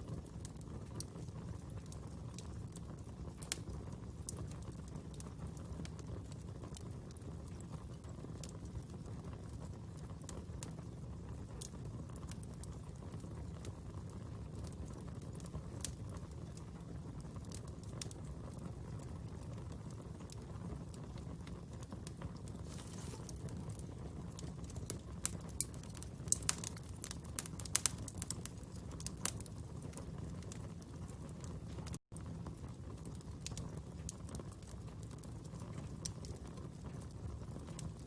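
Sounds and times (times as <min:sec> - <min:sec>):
fire crackling and popping: 0:00.0 - 0:38.0.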